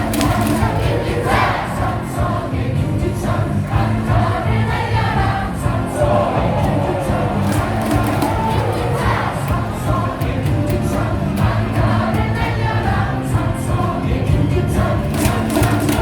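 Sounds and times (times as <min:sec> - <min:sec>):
crowd singing in unison: 0:00.0 - 0:16.0
music from speakers: 0:00.0 - 0:16.0.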